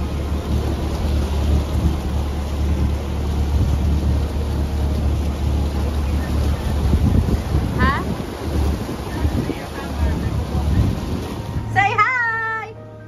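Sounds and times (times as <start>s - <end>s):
wind buffeting microphone: 0.0s - 12.0s
motorboat engine rumble: 0.0s - 13.0s
water rushing along hull: 0.0s - 13.0s.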